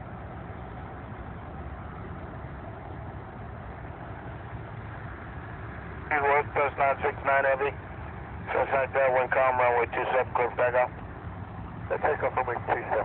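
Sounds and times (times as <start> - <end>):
distant jet engines roaring: 0.0 - 13.0.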